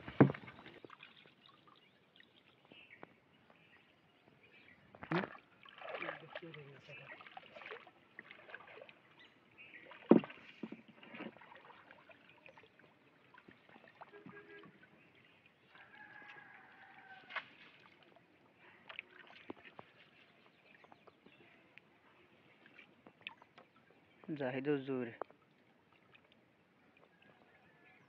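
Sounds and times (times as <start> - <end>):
water sloshing and dripping: 0.0 - 28.0.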